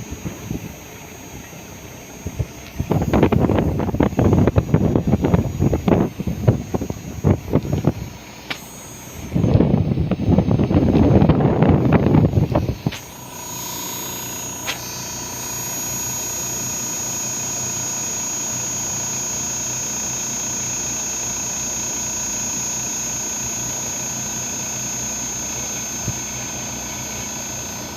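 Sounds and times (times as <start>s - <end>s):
air conditioner humming: 0.0s - 27.9s
high-pitched whine: 0.0s - 27.9s.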